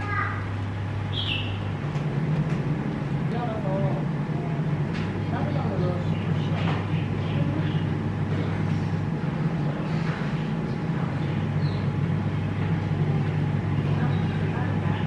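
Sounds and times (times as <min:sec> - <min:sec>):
vehicle engine humming: 0:00.4 - 0:15.0.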